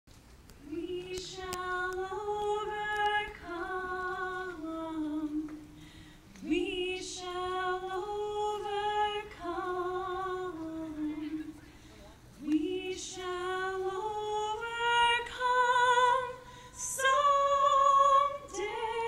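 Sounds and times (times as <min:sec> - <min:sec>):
woman singing slow song: 0:00.6 - 0:11.6, 0:12.4 - 0:19.0.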